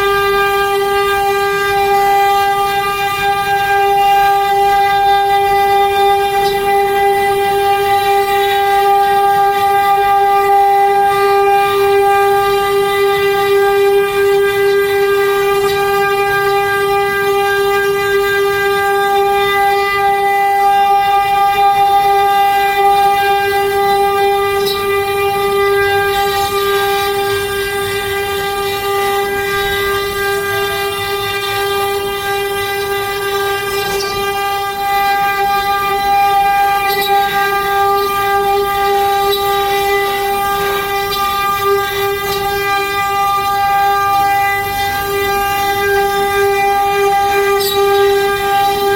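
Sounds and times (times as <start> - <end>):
cnc router spindle whine: 0.0 - 48.9.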